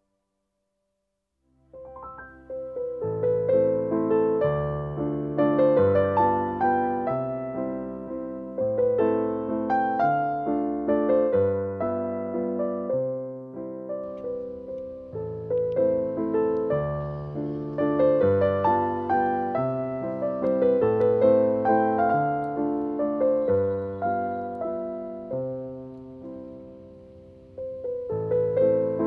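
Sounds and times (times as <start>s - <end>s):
slow piano melody: 1.4s - 29.0s.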